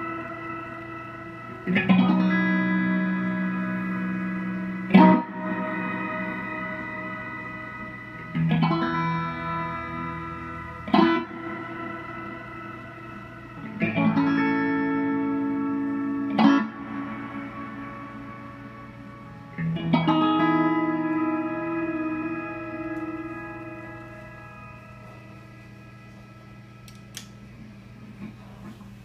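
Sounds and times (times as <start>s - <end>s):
electric guitar chords with delay: 0.0s - 28.2s
steady low hum: 0.0s - 29.0s.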